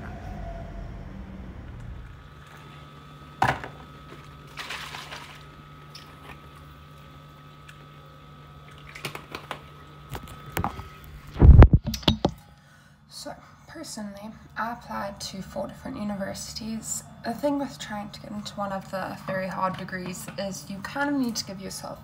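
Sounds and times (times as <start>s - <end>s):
steady appliance hum: 0.0s - 22.0s.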